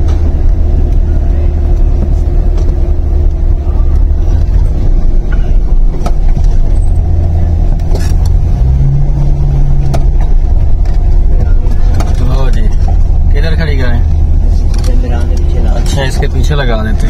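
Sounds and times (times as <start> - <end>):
car low rumble from inside: 0.0 - 17.0.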